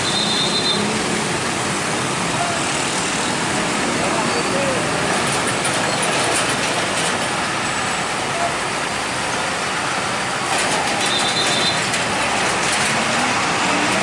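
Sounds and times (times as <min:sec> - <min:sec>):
truck diesel engine: 0:00.0 - 0:14.0.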